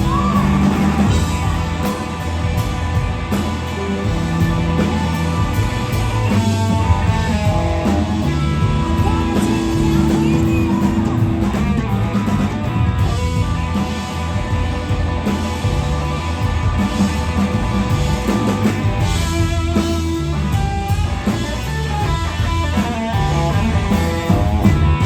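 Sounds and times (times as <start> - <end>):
blues-rock band playing: 0.0 - 25.0
electric guitar bending notes: 0.0 - 25.0.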